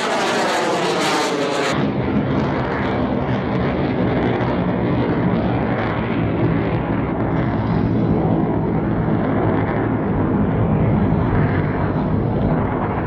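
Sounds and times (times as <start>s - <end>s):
loud aircraft engine noise: 0.0s - 13.0s.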